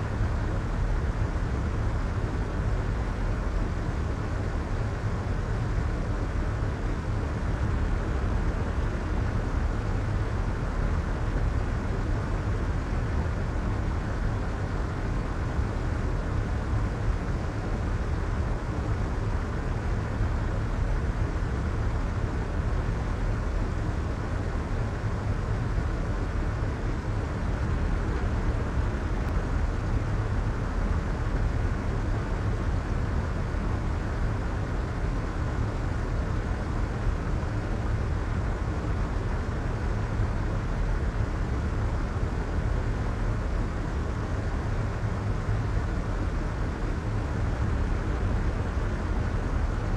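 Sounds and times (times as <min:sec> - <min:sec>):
white noise hiss: 0:00.0 - 0:49.9.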